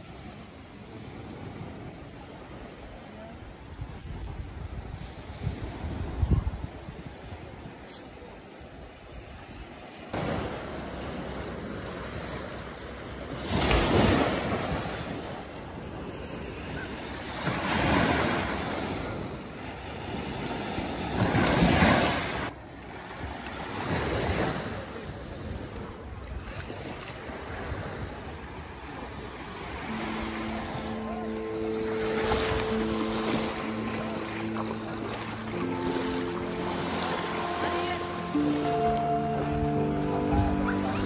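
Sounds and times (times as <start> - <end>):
small waves breaking on shore: 0.0 - 41.0.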